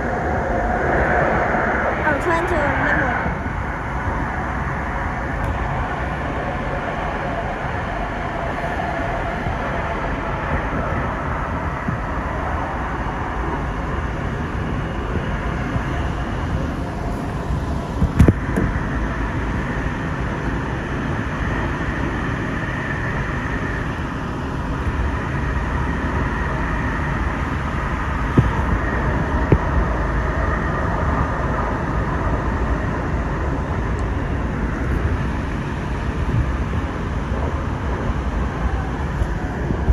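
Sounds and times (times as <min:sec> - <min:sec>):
rumble of wheels on rail: 0:00.0 - 0:39.9.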